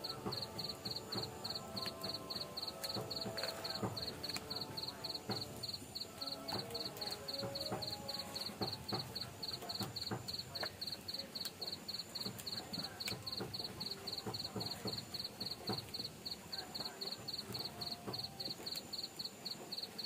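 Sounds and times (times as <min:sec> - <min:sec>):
crackles and clicks: 0:00.0 - 0:19.1
cricket chirping: 0:00.0 - 0:20.0.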